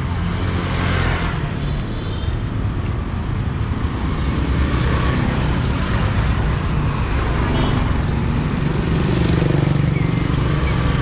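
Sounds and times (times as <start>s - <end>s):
passing motor vehicles rumble: 0.0s - 11.0s.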